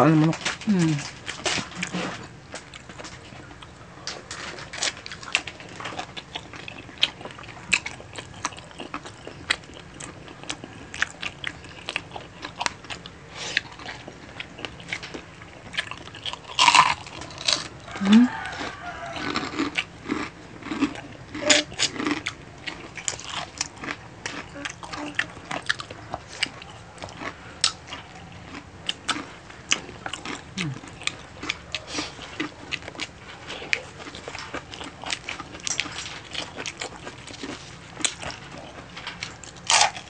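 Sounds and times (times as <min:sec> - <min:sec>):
wet chewing and smacking: 0:00.2 - 0:40.0
crunching bites: 0:00.4 - 0:24.6, 0:25.4 - 0:40.0.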